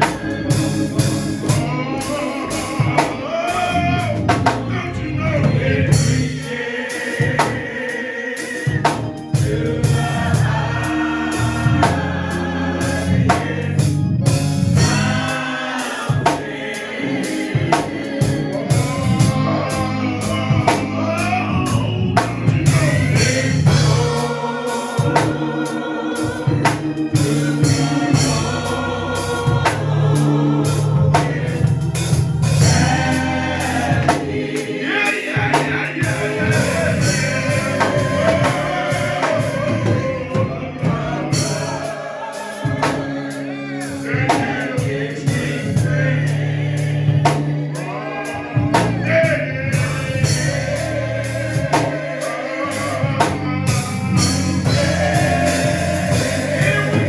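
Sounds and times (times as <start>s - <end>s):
bass line: 0.0s - 6.5s, 8.7s - 15.4s, 17.6s - 25.5s, 26.3s - 34.6s, 35.5s - 41.8s, 44.9s - 47.6s, 48.4s - 57.0s
drums: 0.0s - 57.0s
gospel choir singing: 0.0s - 57.0s.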